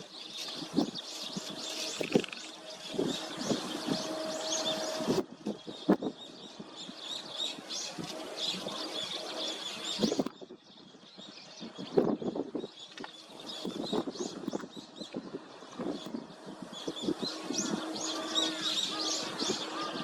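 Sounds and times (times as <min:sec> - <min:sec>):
sparrows chirping: 0:00.0 - 0:20.0
wind buffeting microphone: 0:00.0 - 0:20.0.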